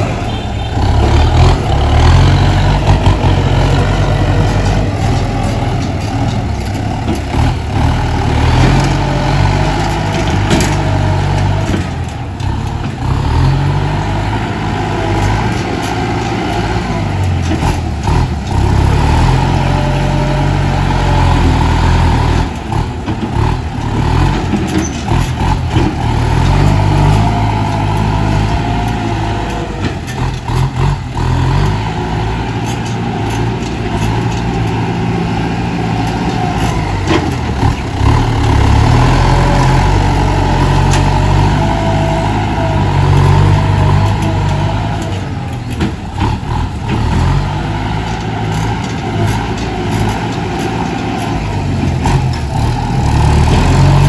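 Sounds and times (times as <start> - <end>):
tractor diesel engine drone: 0.0 - 54.0.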